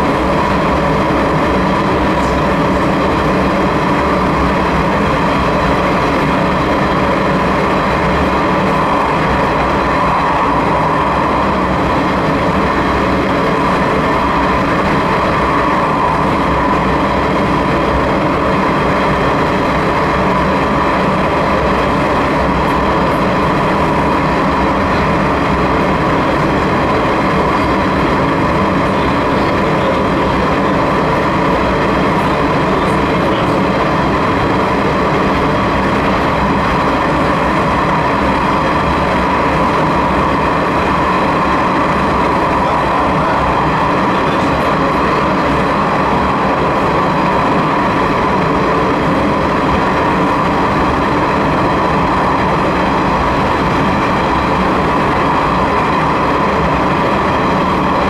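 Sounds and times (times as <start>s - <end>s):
train rumbling through tunnel: 0.0s - 58.0s.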